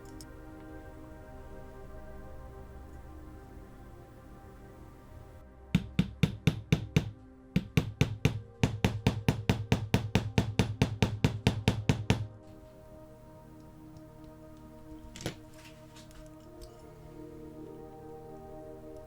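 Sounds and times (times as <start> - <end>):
soft ambient music: 0.0 - 19.0.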